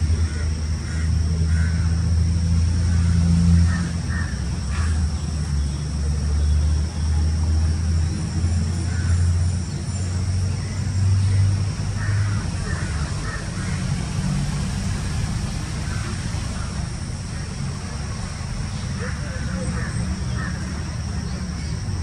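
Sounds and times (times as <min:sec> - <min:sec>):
low engine-like rumble: 0:00.0 - 0:22.0.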